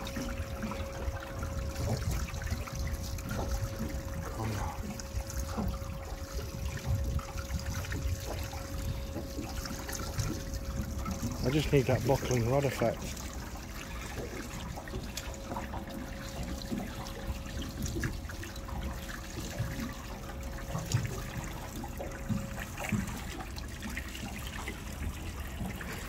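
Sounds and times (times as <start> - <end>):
waves lapping against boat hull: 0.0 - 26.0.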